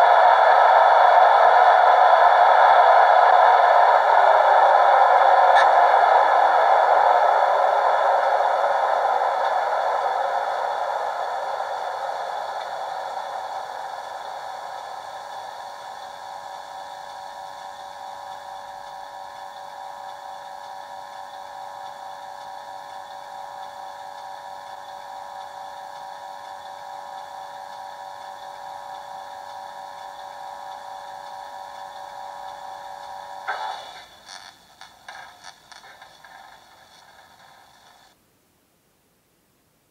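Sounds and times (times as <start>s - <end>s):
electrical hum of several tones: 0.0s - 38.7s.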